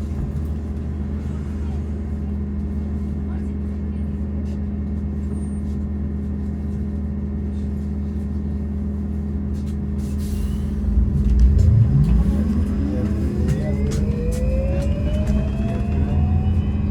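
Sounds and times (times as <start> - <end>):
trolleybus electric hum: 0.0 - 16.9.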